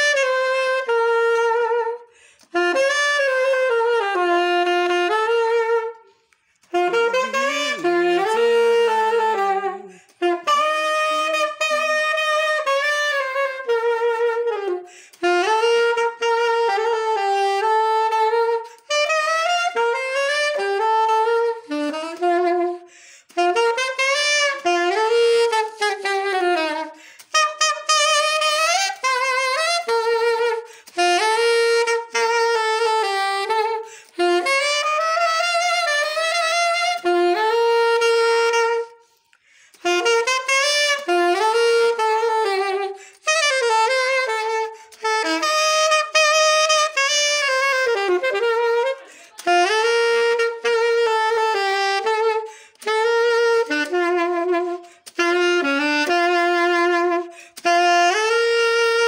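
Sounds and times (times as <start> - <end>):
solo saxophone melody: 0.0 - 59.0.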